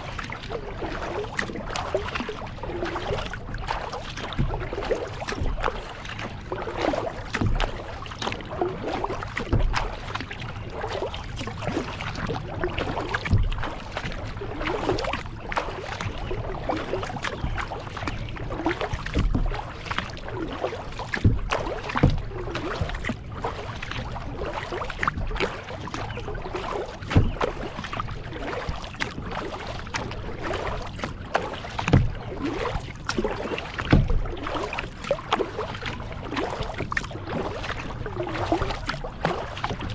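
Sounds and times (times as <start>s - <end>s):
paddle splashing in water: 0.0s - 39.9s
water dripping and lapping: 0.0s - 39.9s.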